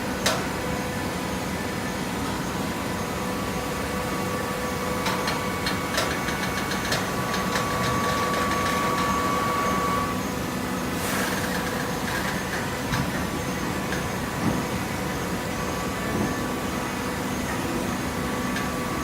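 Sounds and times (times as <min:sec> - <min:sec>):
thin machine whine: 0:00.0 - 0:19.0.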